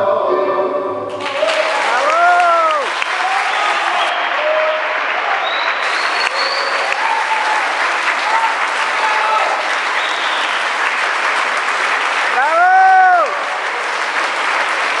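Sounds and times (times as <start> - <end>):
audience applauding: 1.1 - 15.0.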